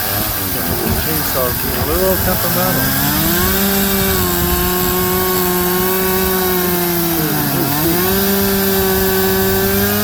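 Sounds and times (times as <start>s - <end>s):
chainsaw cutting a log: 0.0s - 10.0s.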